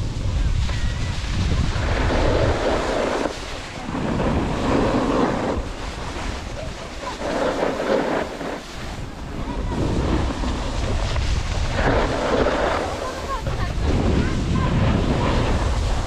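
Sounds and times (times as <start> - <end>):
snowboard scraping on snow: 0.0 - 16.0
wind buffeting microphone: 0.0 - 16.0.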